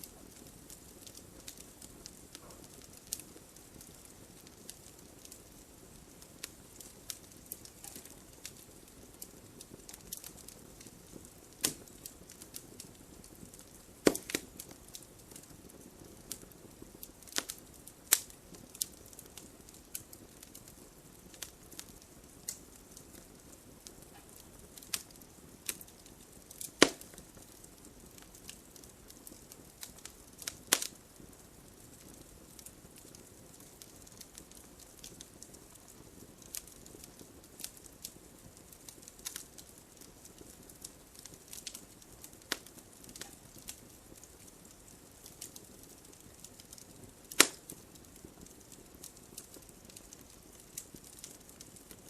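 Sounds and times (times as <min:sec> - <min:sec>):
burning wood crackling and popping: 0:00.0 - 0:52.0
campfire hissing: 0:00.0 - 0:52.0.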